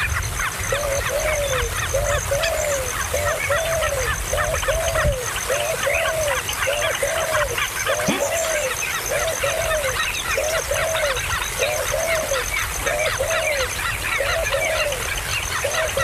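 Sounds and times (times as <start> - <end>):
chorus of high bird chirps: 0.0 - 16.0.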